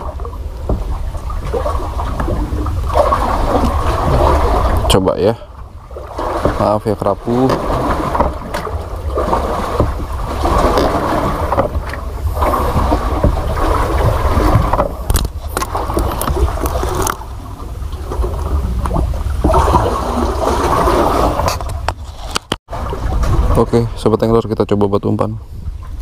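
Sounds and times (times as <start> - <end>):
water sloshing around boat: 0.0 - 26.0
wind buffeting microphone: 0.0 - 26.0.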